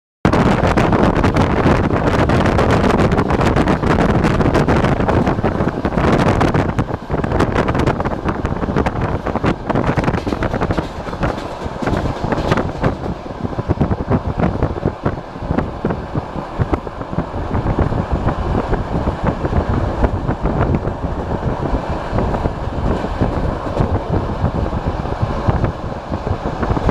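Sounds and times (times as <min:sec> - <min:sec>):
train wheels rumbling on rails: 0:00.3 - 0:26.9
wind buffeting microphone: 0:00.3 - 0:26.9.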